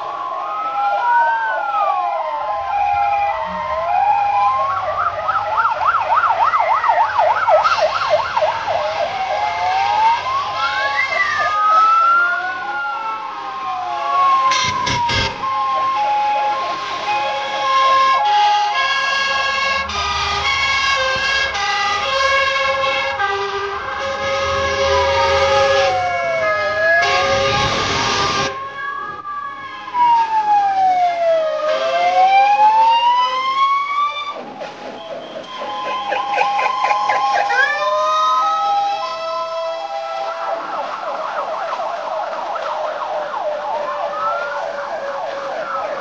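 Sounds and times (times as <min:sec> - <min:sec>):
fire engine sirens: 0:00.0 - 0:46.0.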